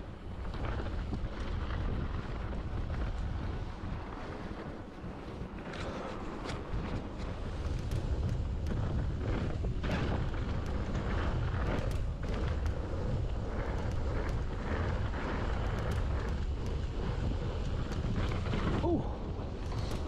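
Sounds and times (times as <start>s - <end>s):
bike rattling and knocking: 0.0s - 20.0s
bike tyres rolling on dirt: 0.0s - 20.0s
wind buffeting microphone: 0.0s - 20.0s.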